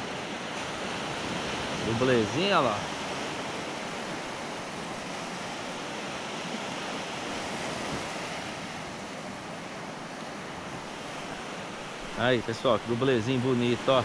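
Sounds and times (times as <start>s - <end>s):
surf breaking on sandy beach: 0.0s - 14.0s.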